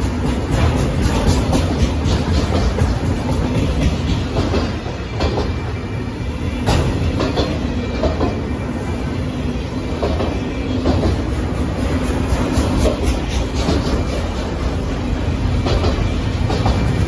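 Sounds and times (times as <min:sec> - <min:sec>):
wheels clicking over rail joints: 0:00.0 - 0:05.6, 0:06.6 - 0:08.4, 0:09.9 - 0:17.0.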